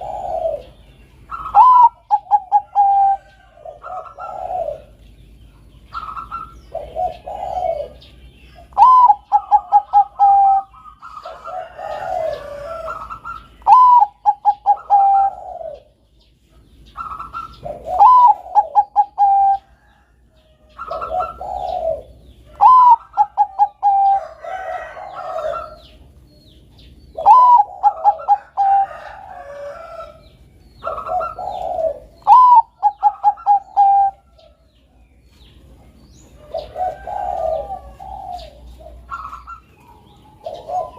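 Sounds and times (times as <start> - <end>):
dove cooing: 0.0 - 16.2, 16.8 - 26.2, 26.9 - 34.8, 35.6 - 40.9.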